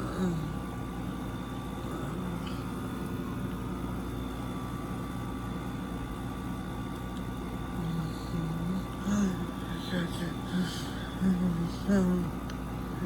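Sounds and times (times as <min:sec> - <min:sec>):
air conditioner hum: 0:00.0 - 0:13.0
fan noise: 0:00.0 - 0:13.0.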